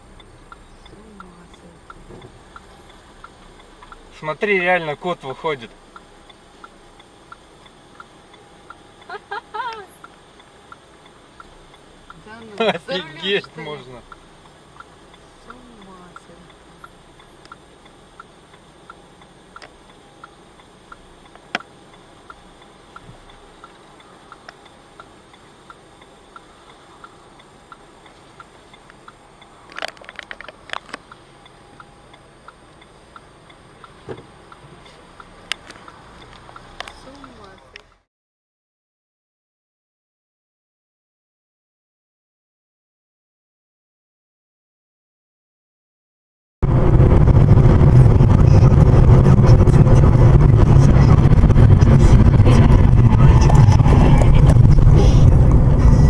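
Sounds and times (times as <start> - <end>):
turn signal ticking: 0.0 - 38.0, 46.6 - 56.0
car driving on highway: 0.0 - 38.1, 46.6 - 56.0.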